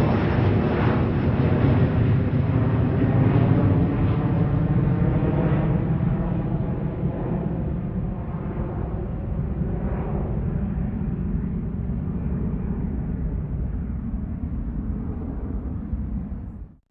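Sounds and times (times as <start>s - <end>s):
airplane flying by: 0.0s - 16.8s.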